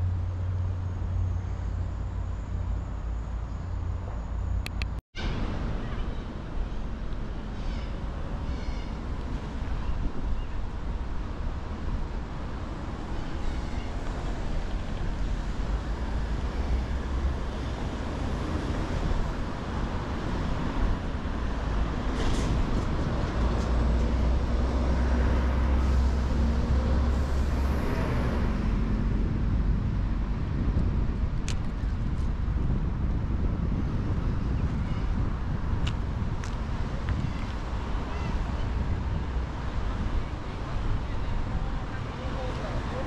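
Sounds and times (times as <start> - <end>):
city road traffic: 0.0 - 43.0
heavy vehicle engine rumble: 0.0 - 43.0.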